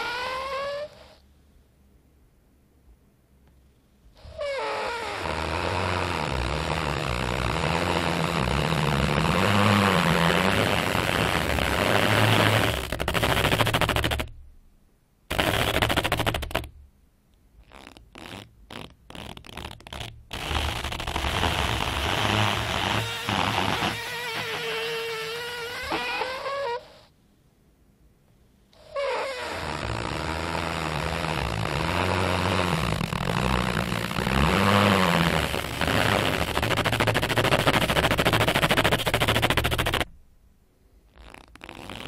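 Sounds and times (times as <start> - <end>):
rubber slat squeaking and creaking: 0.0 - 1.2, 4.2 - 14.4, 15.3 - 16.8, 17.6 - 27.1, 28.8 - 40.2, 41.1 - 42.0.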